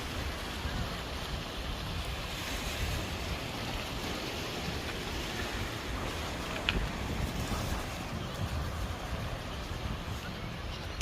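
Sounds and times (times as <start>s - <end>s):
sea surf washing onto beach: 0.0s - 11.0s
wind buffeting microphone: 0.0s - 11.0s.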